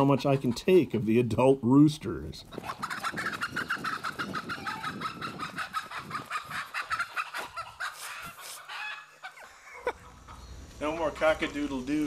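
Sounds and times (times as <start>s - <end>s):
chickens clucking: 0.0s - 1.0s, 2.4s - 11.4s.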